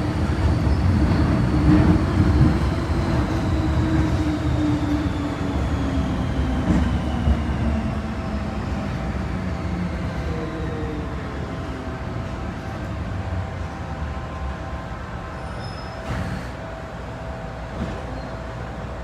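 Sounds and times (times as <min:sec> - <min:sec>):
metro train rumble and motor whine: 0:00.0 - 0:19.0.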